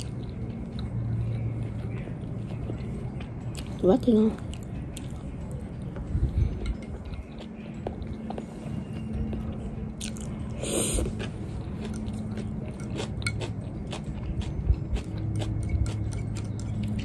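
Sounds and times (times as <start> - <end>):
person chewing crunchy food: 0.0 - 3.8, 4.4 - 17.0.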